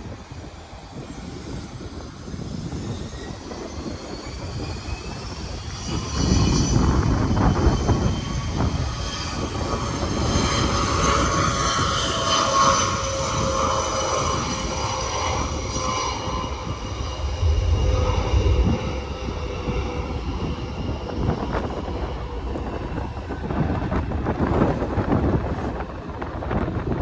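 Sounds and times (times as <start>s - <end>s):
jet engines whining: 0.0s - 26.6s
wind buffeting microphone: 0.0s - 27.0s.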